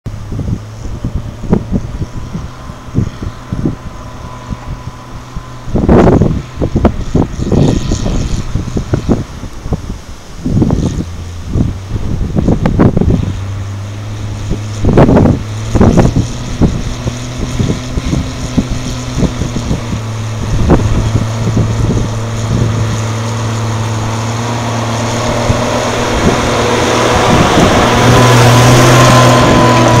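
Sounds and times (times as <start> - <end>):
truck engine driving past: 0.1 - 30.0
wind buffeting microphone: 0.1 - 30.0.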